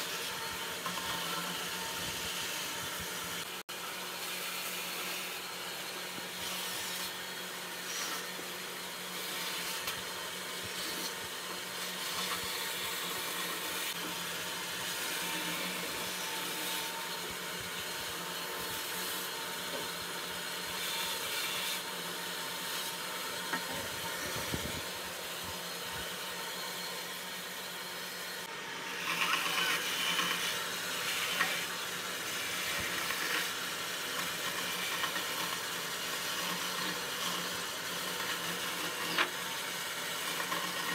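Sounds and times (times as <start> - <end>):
saw blade cutting wood: 0.0 - 27.2, 28.2 - 40.9
bandsaw motor hum: 0.0 - 40.9.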